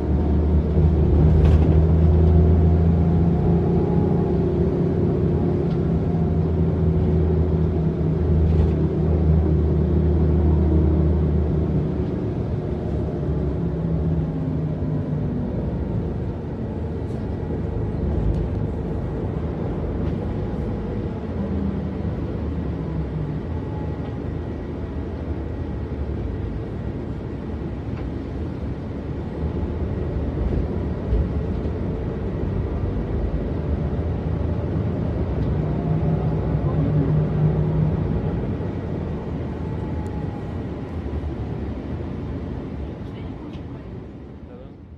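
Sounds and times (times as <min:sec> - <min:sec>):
bus diesel engine idling: 0:00.0 - 0:44.9.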